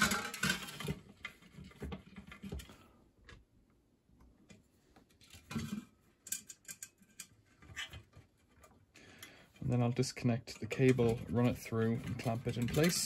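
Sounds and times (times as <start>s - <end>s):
small parts clicking and rustling: 0.0s - 3.4s, 5.0s - 9.6s, 10.5s - 13.0s.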